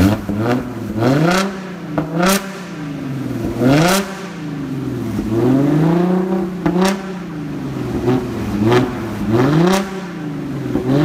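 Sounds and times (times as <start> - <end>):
car engine revving: 0.0 - 11.0
exhaust cracks: 0.0 - 11.0.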